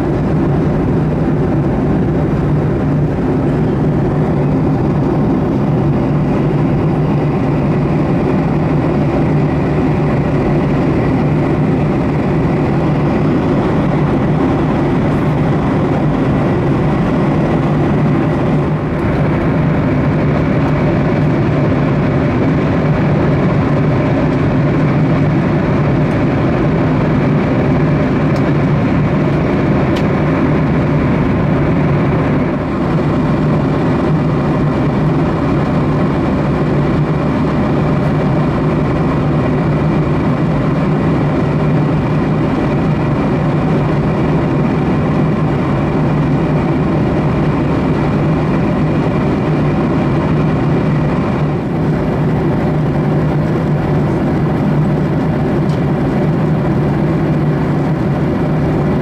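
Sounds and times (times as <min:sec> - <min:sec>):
airplane cabin engine drone: 0:00.0 - 0:59.0
rush of airflow: 0:00.0 - 0:59.0.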